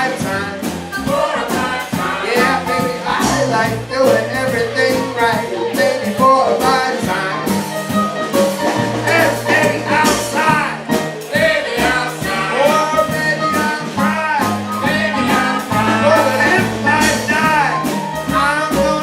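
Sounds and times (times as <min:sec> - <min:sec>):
live band with singing: 0:00.0 - 0:19.0.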